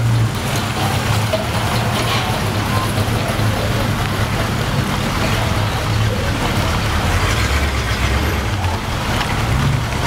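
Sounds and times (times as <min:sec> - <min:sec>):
rain hissing: 0:00.0 - 0:10.0.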